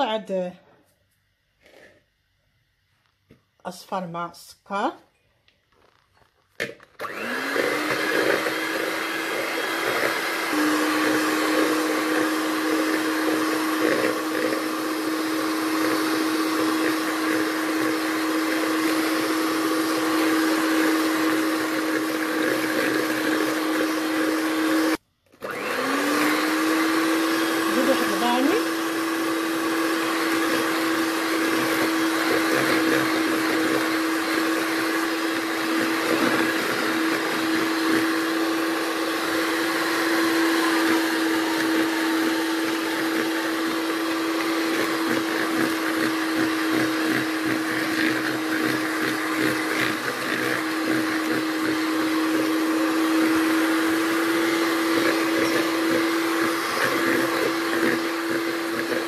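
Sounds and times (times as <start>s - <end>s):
electric hand mixer whipping: 6.6s - 59.0s.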